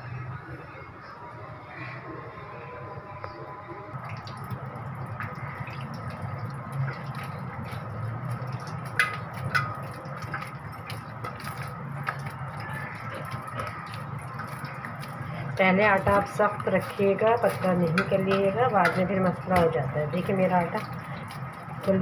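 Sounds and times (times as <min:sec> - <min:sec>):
dough squishing: 0:04.1 - 0:22.0.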